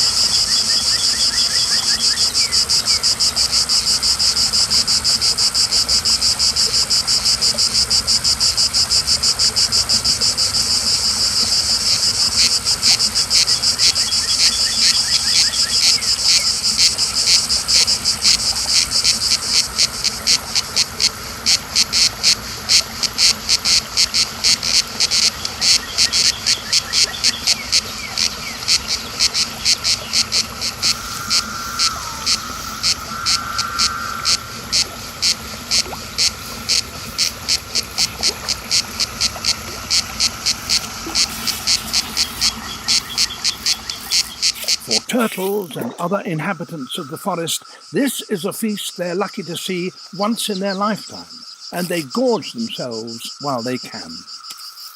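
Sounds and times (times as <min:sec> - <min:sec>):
cicadas buzzing and pulsing: 0:00.0 - 0:54.9.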